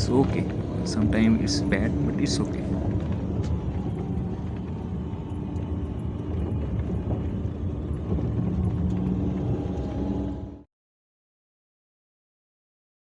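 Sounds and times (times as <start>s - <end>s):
car engine and tyre rumble: 0.0s - 10.6s.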